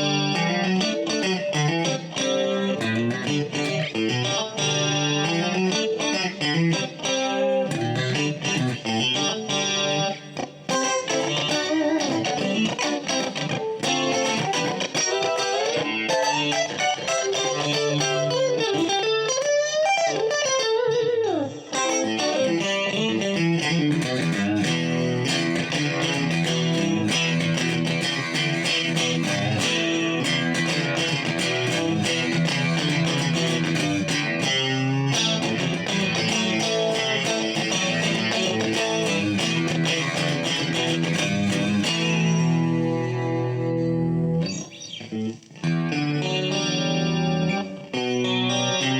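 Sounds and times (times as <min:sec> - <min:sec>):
clean electric guitar playing: 0:00.0 - 0:48.9.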